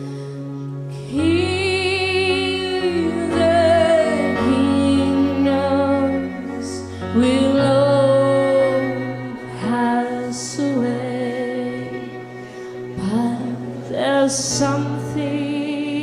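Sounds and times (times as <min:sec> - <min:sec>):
woman singing with vibrato: 0:01.0 - 0:16.0.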